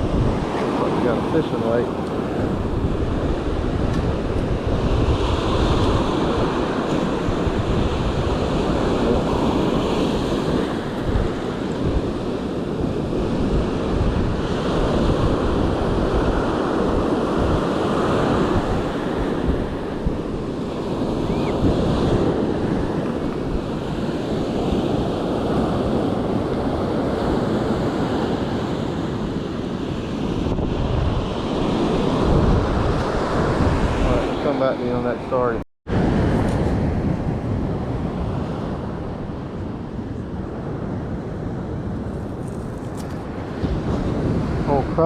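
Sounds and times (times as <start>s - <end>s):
ocean surf washing in: 0.0s - 45.0s
wind buffeting microphone: 0.0s - 45.0s.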